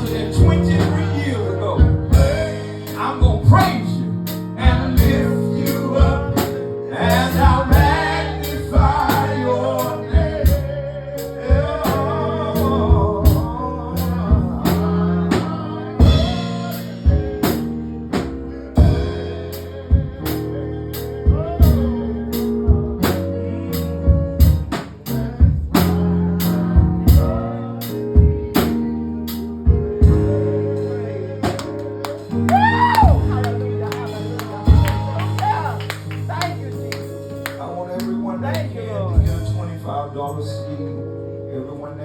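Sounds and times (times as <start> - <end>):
drum kit steady beat: 0.0 - 30.6, 31.4 - 39.6
bass and guitar: 0.0 - 42.0
sustained keyboard chords: 0.0 - 42.0.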